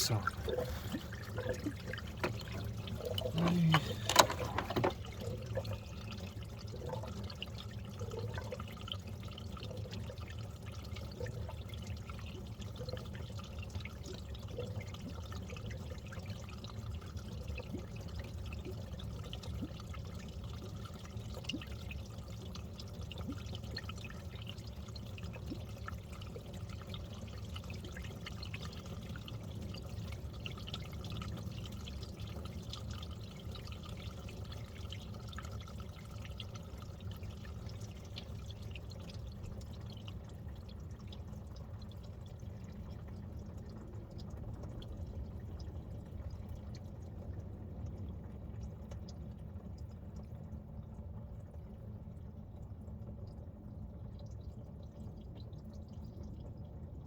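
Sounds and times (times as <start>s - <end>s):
coolant trickling and dripping: 0.0s - 57.0s.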